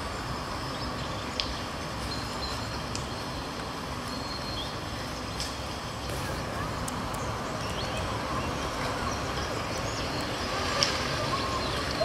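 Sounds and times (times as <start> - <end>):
traffic rumble and hiss: 0.0 - 12.0.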